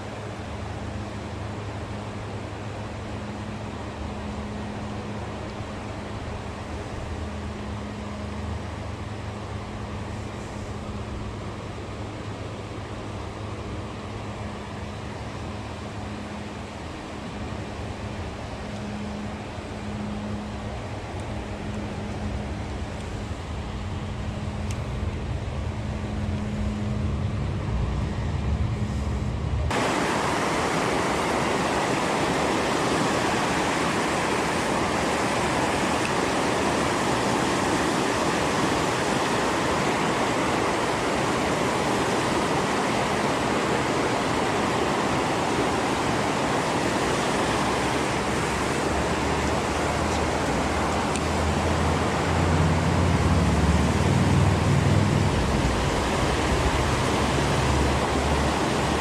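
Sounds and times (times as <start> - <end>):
river water rushing: 0.0 - 28.7, 29.6 - 59.0
low hum: 0.1 - 59.0.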